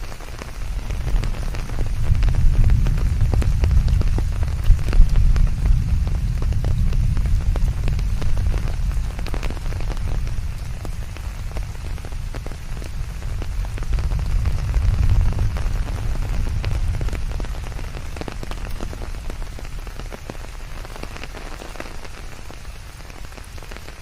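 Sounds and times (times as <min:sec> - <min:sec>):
rain pattering on leaves: 0:00.0 - 0:24.0
low rumble: 0:00.6 - 0:20.2.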